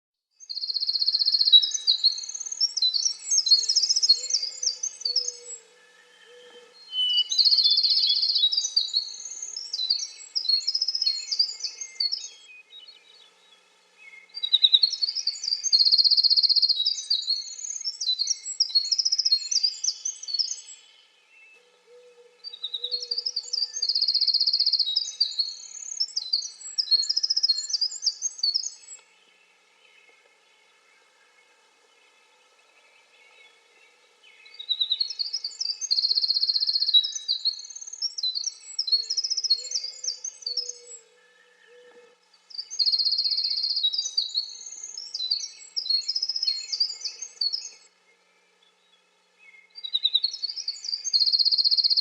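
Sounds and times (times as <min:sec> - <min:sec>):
wren singing trills: 0:00.4 - 0:13.3, 0:14.0 - 0:21.0, 0:21.9 - 0:29.1, 0:34.4 - 0:48.0, 0:49.5 - 0:52.0.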